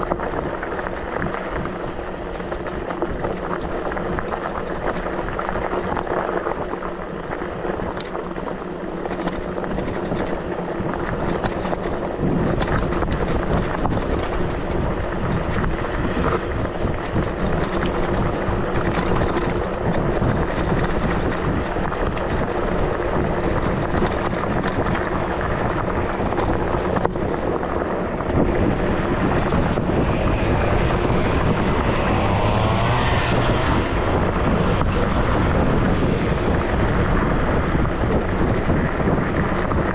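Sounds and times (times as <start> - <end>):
tyres rumbling over rough ground: 0.0 - 39.9
wind buffeting microphone: 0.0 - 39.9.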